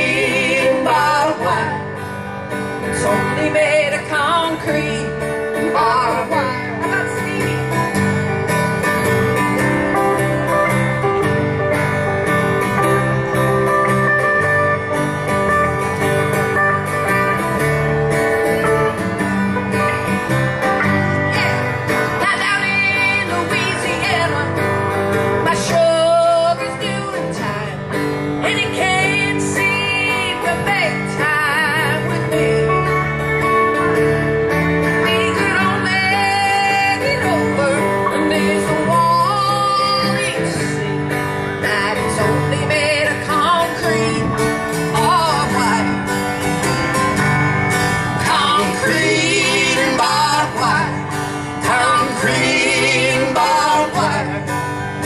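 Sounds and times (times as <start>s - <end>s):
acoustic country band: 0.0s - 55.0s.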